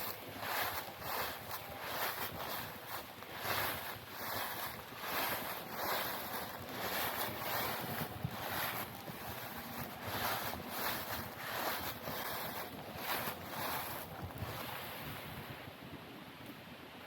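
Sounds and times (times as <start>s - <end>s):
footsteps on dry leaves: 0.0s - 15.6s.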